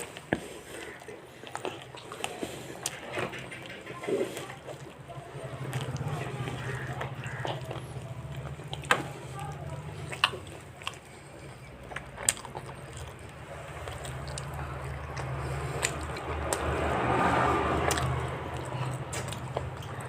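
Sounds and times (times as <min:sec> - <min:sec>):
mouth clicks and chewing: 0:00.0 - 0:20.0.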